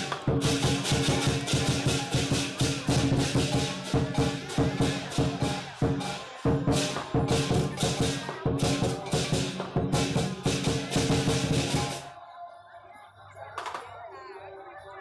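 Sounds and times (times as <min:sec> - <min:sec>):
background music with percussive beat: 0:00.0 - 0:12.1.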